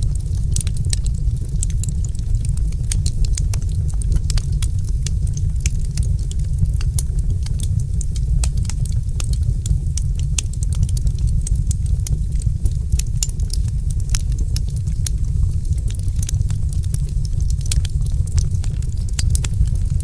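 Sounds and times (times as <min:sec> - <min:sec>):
low rumble: 0:00.0 - 0:20.0
wood fire crackling: 0:00.0 - 0:20.0.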